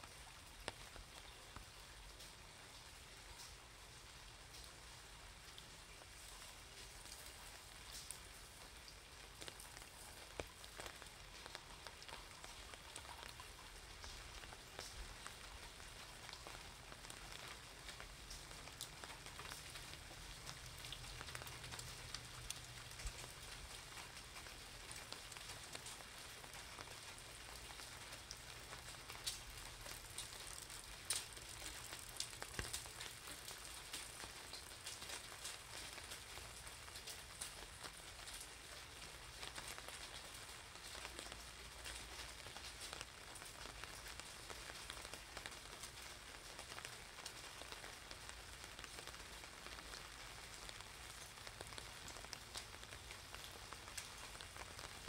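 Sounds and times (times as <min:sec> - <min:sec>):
light rain hissing: 0:00.0 - 0:55.0
raindrops ticking on umbrella: 0:00.0 - 0:55.0.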